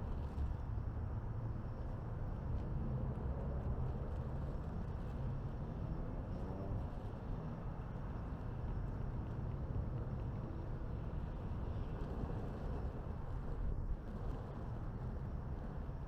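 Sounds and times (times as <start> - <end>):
city traffic rumble: 0.0 - 16.0
wind: 0.0 - 16.0.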